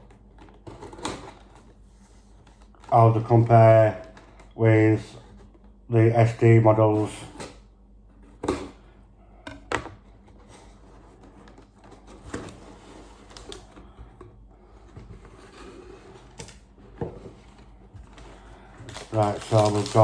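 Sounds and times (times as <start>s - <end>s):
cardboard and packaging rustling: 0.0s - 9.0s, 9.7s - 20.0s.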